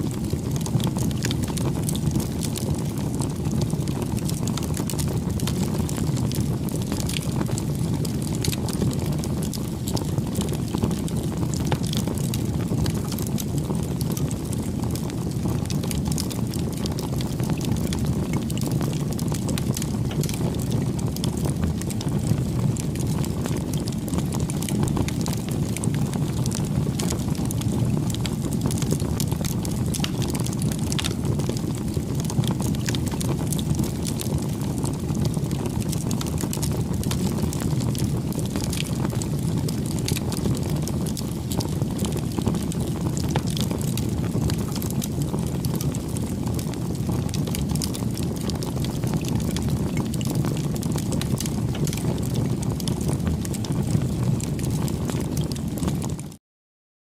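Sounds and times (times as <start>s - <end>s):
rush of flames: 0.1s - 56.1s
wood crackling and popping: 0.1s - 56.3s.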